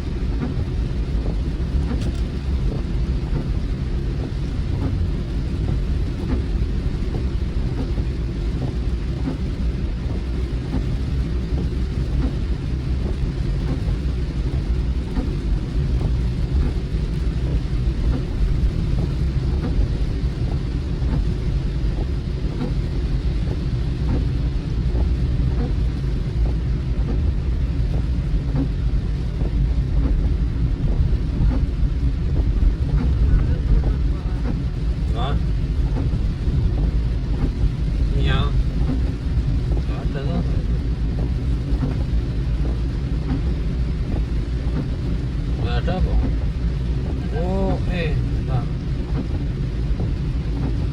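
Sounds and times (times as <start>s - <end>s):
car road and engine rumble: 0.0s - 50.9s
rain ticking on car: 0.0s - 50.9s.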